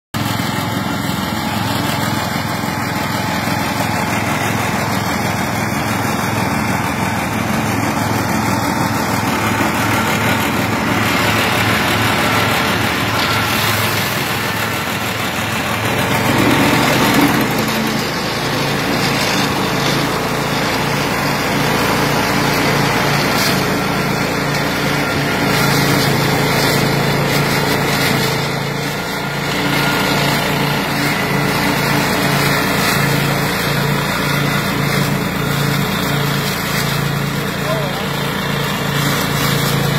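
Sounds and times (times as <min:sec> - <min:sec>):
mower engine running: 0:00.1 - 0:39.9.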